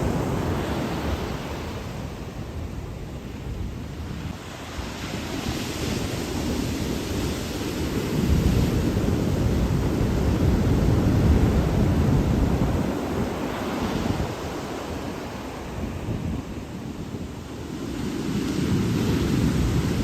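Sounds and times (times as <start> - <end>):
ocean waves rushing: 0.0 - 20.0.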